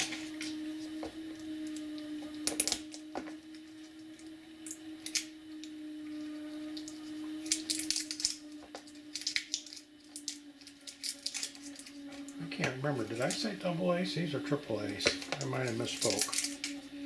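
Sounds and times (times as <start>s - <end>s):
clicks and crinkles of handling: 0.0s - 13.6s, 14.8s - 17.0s
steady low hum: 0.0s - 17.0s.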